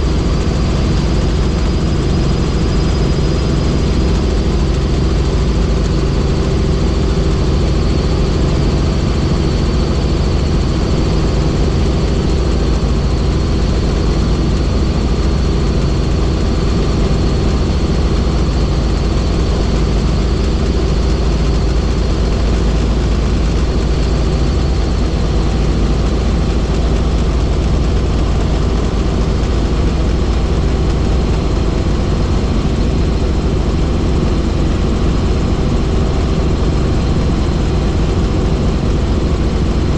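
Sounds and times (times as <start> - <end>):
helicopter rotors and engine drone: 0.0 - 39.9.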